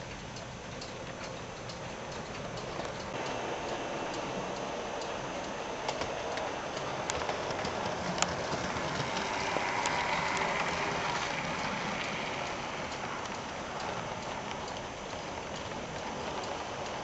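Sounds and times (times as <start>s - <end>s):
wheels clicking over rail joints: 0.0s - 17.0s
model train rolling hiss: 1.2s - 17.0s.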